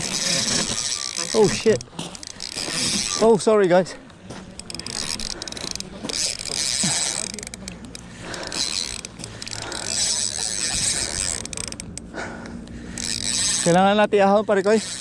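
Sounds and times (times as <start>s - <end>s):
fishing reel gears whirring: 0.0s - 15.0s.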